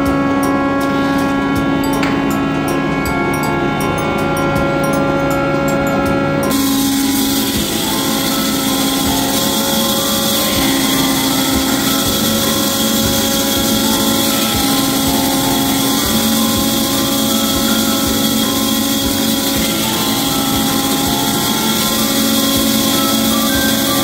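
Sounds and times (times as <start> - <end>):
bandsaw cutting wood: 0.0 - 24.0.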